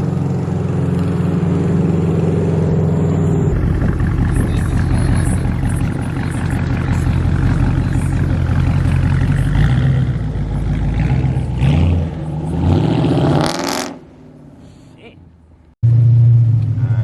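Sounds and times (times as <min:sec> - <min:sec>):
loud car engine and exhaust: 0:00.0 - 0:17.0.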